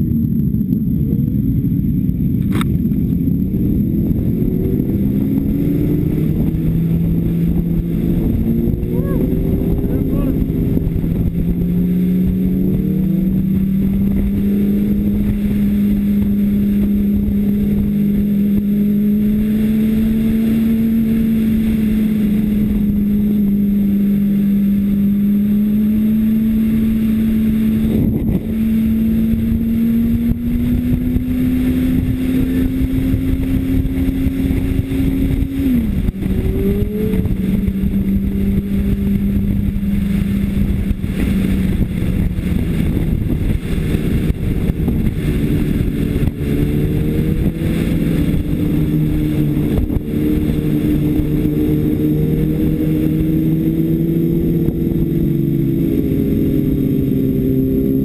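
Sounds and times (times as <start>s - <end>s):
motorcycle engine running hard: 0.0s - 58.0s
wind rush: 0.0s - 58.0s.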